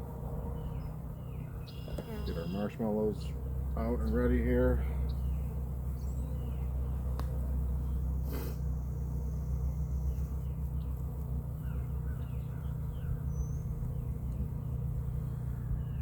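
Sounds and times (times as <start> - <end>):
bees humming: 0.0 - 16.0
small birds chirping: 0.4 - 16.0.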